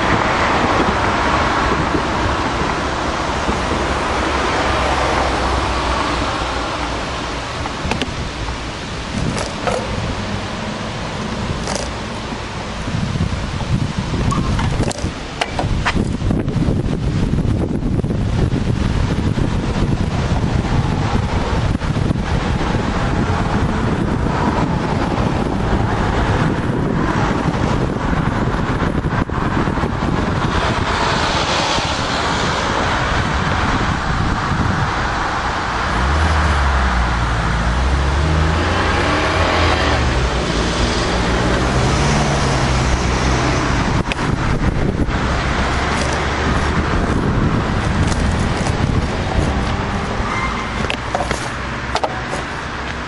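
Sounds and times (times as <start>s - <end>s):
engine droning: 0.0s - 53.0s
passing cars rushing: 0.0s - 53.0s.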